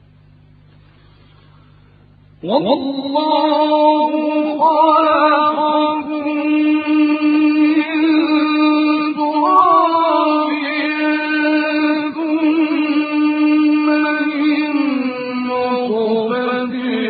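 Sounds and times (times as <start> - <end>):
man chanting recitation: 2.4 - 17.0.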